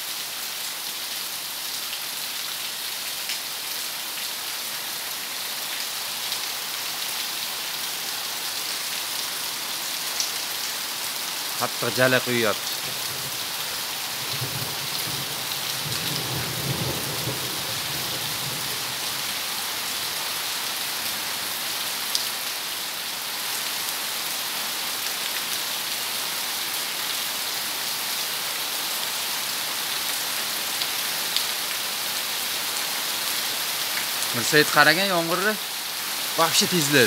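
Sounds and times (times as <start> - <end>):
heavy rain on leaves and paving: 0.0 - 37.0.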